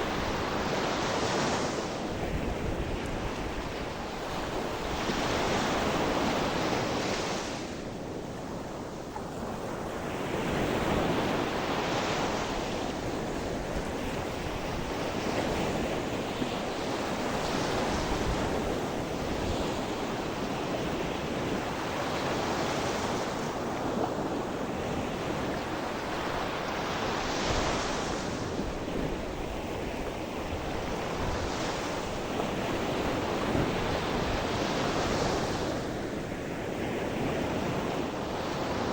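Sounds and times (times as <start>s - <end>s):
sea waves breaking on shore: 0.0s - 38.9s
wind on microphone: 0.0s - 38.9s.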